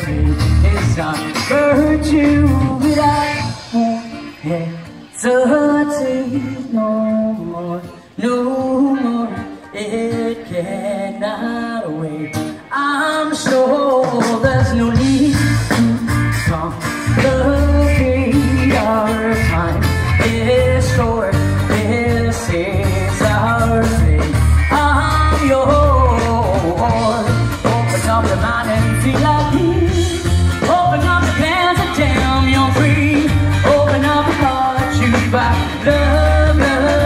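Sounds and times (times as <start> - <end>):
live band with lead singer: 0.0 - 37.0.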